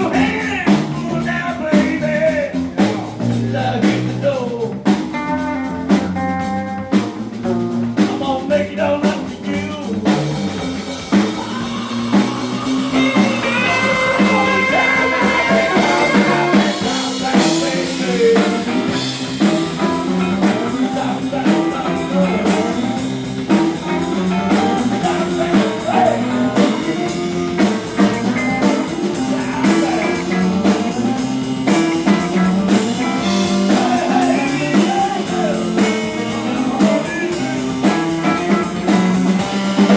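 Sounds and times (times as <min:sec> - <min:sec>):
person singing: 0:00.0 - 0:05.0, 0:08.0 - 0:39.9
blues-rock band playing: 0:00.0 - 0:39.9.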